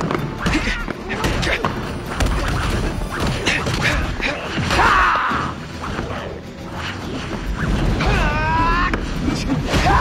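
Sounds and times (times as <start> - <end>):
action film music: 0.0 - 10.0.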